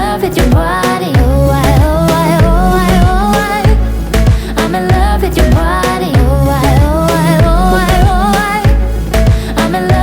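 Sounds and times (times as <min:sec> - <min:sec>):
pop music with singing: 0:00.0 - 0:10.0.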